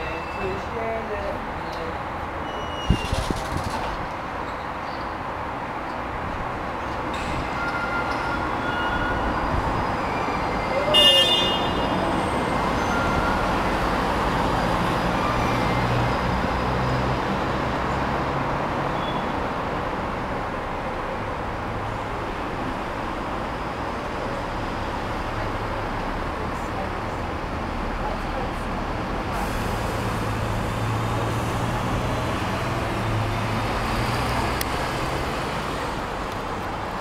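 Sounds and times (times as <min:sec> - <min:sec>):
passing vehicles: 0:00.0 - 0:37.0.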